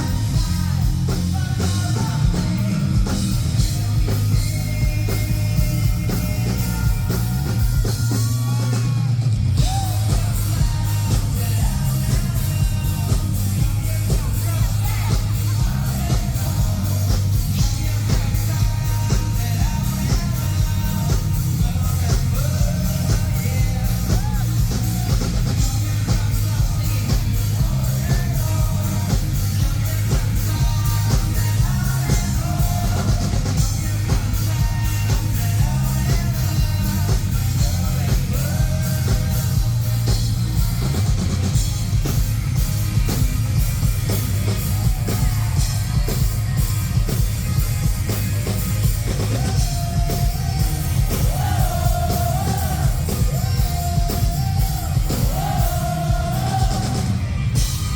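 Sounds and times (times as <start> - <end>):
lead vocal singing: 0.0 - 41.7, 48.8 - 57.9
drum kit beat: 0.0 - 57.9
heavy bass: 0.0 - 57.9.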